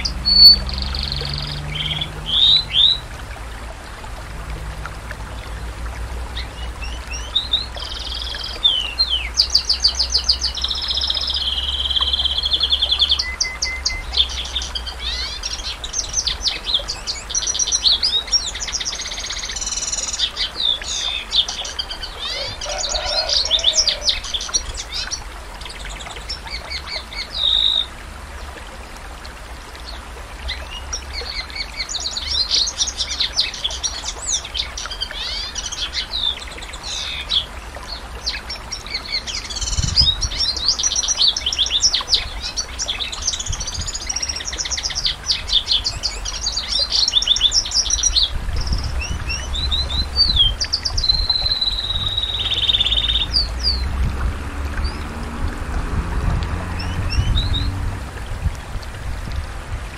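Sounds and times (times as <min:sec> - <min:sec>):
canary singing trills: 0:00.0 - 0:03.0, 0:06.4 - 0:27.9, 0:30.5 - 0:53.9.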